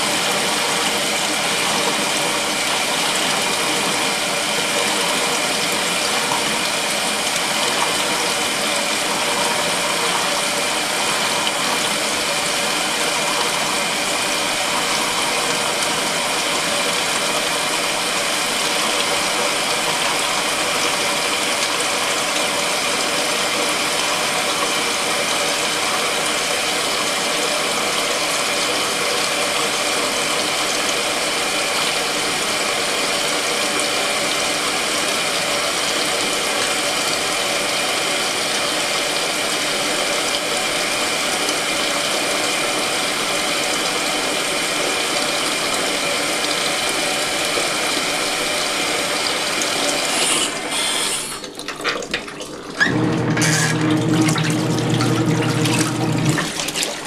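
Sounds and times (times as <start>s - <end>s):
washing machine churning: 0.0s - 57.0s.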